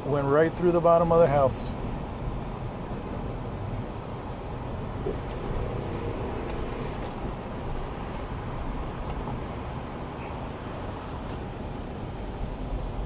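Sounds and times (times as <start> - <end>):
car driving along a street: 0.0 - 13.0.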